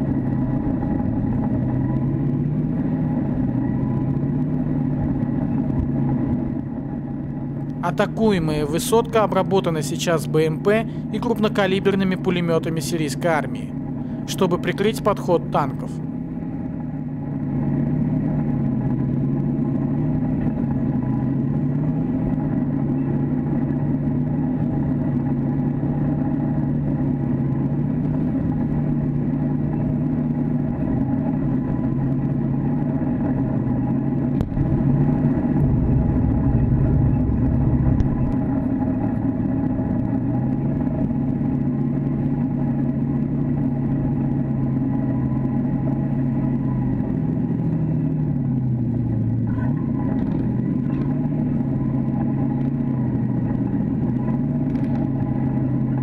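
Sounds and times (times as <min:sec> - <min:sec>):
tank diesel engine running: 0:00.0 - 0:56.0.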